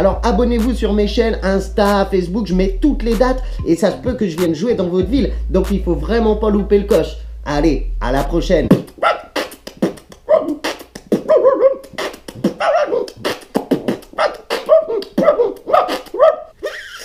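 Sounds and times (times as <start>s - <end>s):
man beatboxing: 0.0s - 16.3s.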